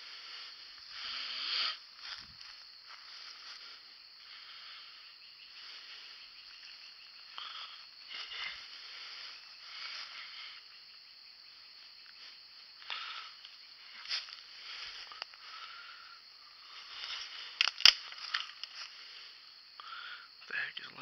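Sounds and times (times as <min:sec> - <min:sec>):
insects chorus: 0:00.0 - 0:21.0.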